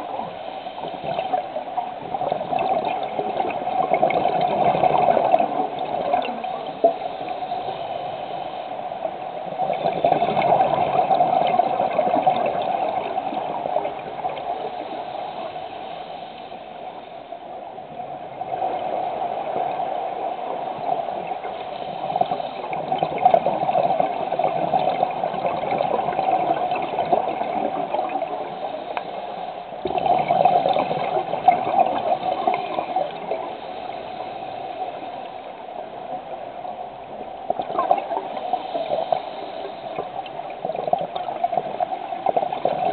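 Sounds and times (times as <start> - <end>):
underwater bubbles gurgling: 0.0 - 42.9.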